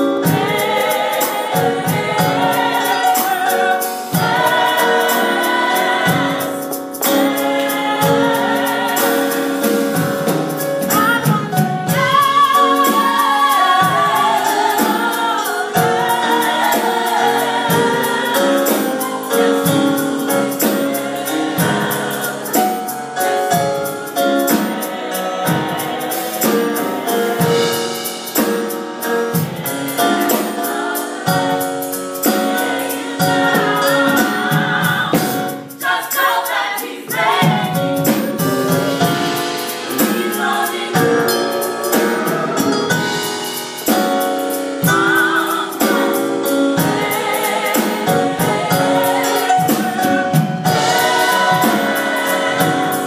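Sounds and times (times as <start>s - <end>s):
gospel choir singing: 0.0s - 53.0s.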